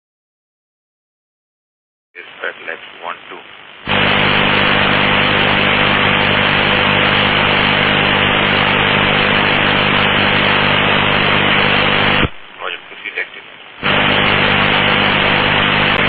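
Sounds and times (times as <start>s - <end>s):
low electrical hum: 2.2s - 16.0s
radio static hiss: 2.2s - 16.0s.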